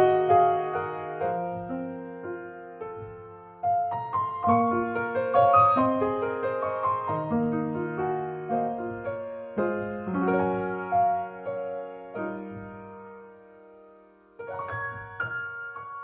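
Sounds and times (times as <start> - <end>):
soft piano melody: 0.0 - 16.0.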